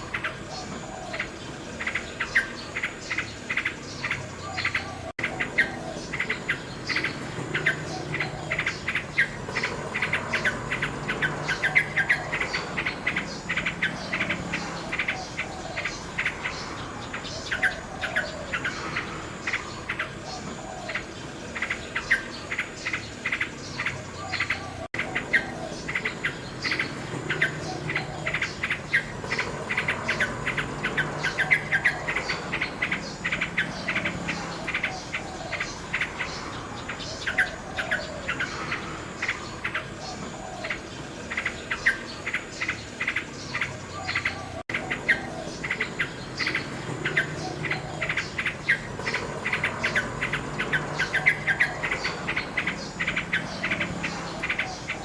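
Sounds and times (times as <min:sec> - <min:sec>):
crickets trilling: 0:00.0 - 0:55.0
nightingale singing: 0:00.0 - 0:55.0.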